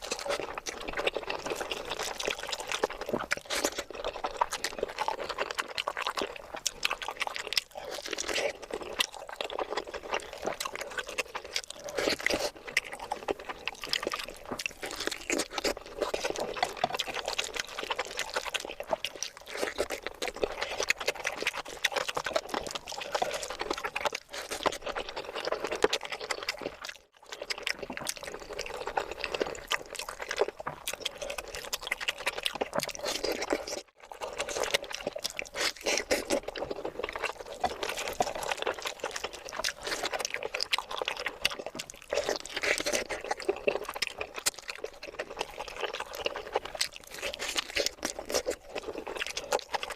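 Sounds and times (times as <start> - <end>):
chewing and mouth smacking: 0.0 - 49.9.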